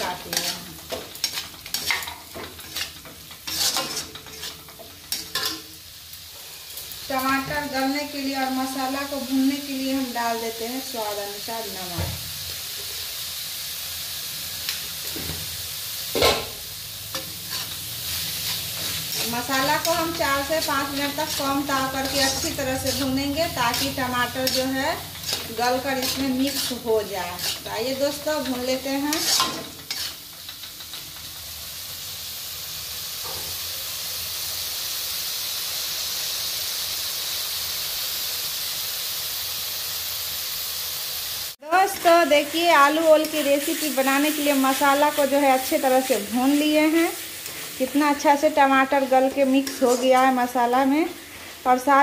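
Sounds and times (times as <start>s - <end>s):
food sizzling in oil: 0.0s - 52.0s.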